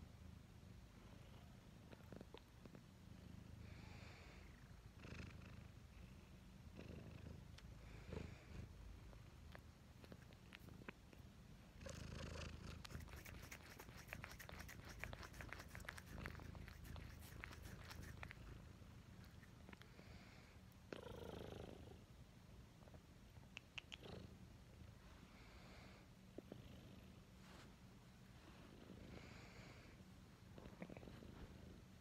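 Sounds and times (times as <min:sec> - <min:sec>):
cat purring: 0:00.7 - 0:22.1, 0:23.8 - 0:27.7, 0:28.4 - 0:32.0.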